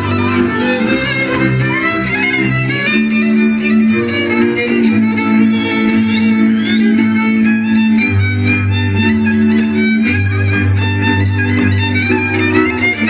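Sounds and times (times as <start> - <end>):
bass: 0.0 - 13.0
fiddle melody: 0.0 - 13.0
folk dance music: 0.0 - 13.0.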